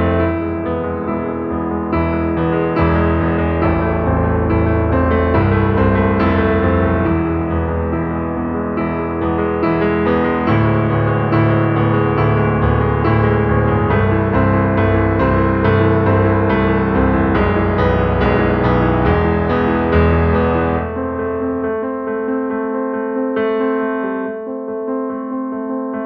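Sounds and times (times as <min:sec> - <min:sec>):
bass line: 0:00.0 - 0:21.0
piano background music: 0:00.0 - 0:26.0.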